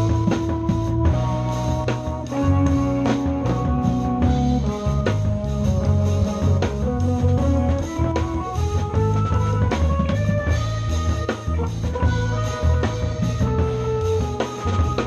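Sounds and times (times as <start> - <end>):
bass line: 0.0 - 15.0
drum kit: 0.0 - 15.0
guitar melody: 0.0 - 15.0.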